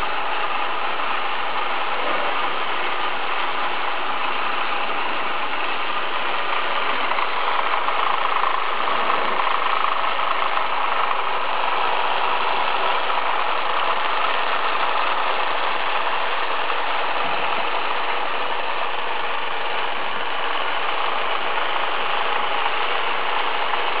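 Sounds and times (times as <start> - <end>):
model ride mechanical whir: 0.0 - 24.0.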